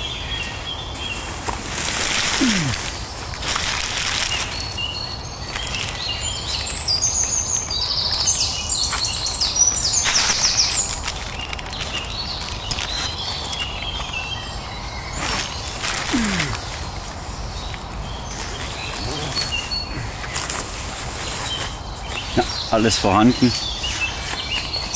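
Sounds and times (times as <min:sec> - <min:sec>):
songbird chirping and trilling: 0:03.8 - 0:24.9.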